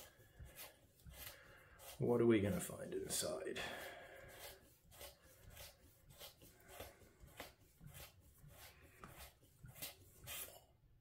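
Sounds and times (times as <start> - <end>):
faint rubbing strokes: 0.0 - 10.6.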